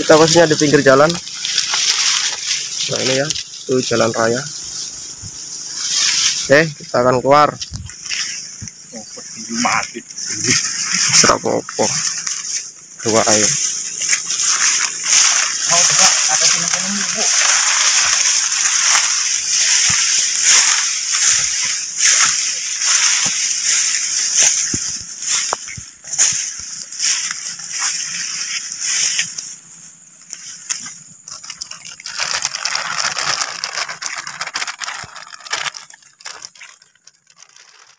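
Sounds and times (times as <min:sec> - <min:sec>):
plastic bag crinkling: 0:00.0 - 0:03.3, 0:07.7 - 0:28.9, 0:29.6 - 0:37.9
brush rustling and crackling: 0:00.0 - 0:37.9
twigs and leaves crunching: 0:00.0 - 0:37.9.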